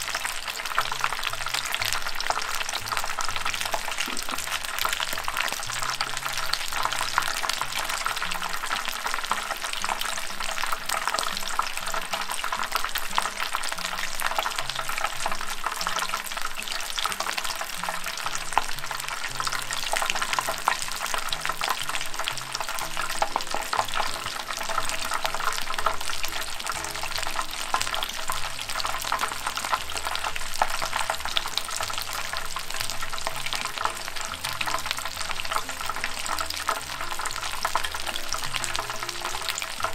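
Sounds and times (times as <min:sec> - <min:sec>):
shrimp deep-frying in hot oil: 0:00.0 - 0:39.9.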